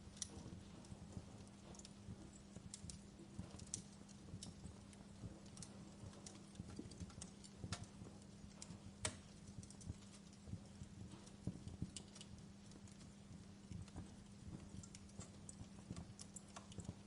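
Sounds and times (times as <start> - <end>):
steady low hum: 0.0 - 17.0
wood fire crackling: 0.0 - 17.0.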